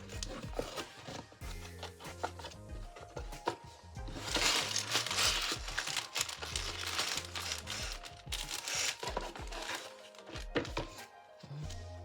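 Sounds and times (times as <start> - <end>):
background music with bass line: 0.0 - 9.8, 10.4 - 12.0
plastic bags crinkling: 0.0 - 11.8.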